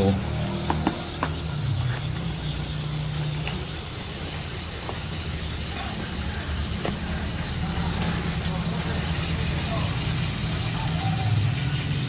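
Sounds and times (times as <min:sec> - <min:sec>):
low motor hum: 0:00.0 - 0:12.0
hose water running onto soil: 0:00.8 - 0:12.0.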